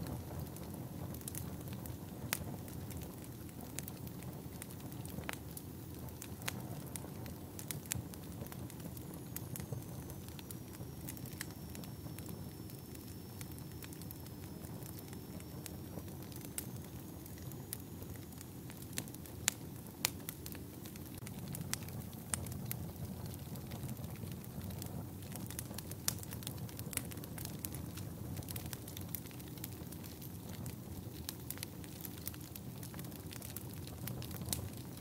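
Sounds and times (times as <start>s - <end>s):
low rumble of flames: 0.0s - 35.0s
wood fire crackling and popping: 0.0s - 35.0s.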